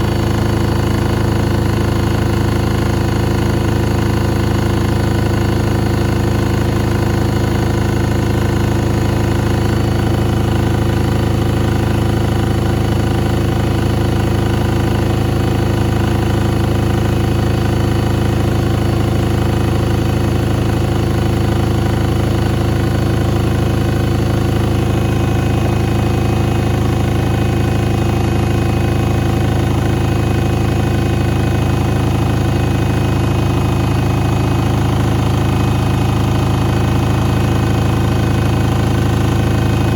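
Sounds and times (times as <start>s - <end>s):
washing machine motor humming: 0.0s - 39.9s.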